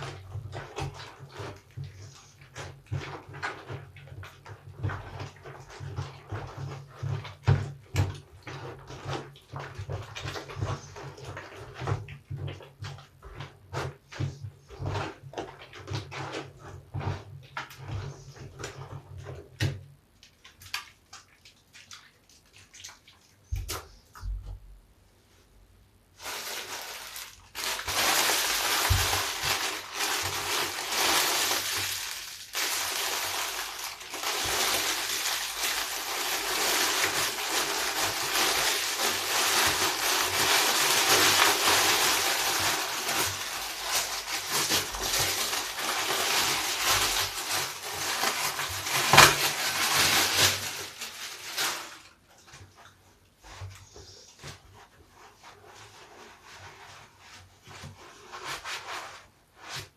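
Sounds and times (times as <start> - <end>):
soapy sponge squeezing: 0.0 - 24.4, 25.2 - 59.9.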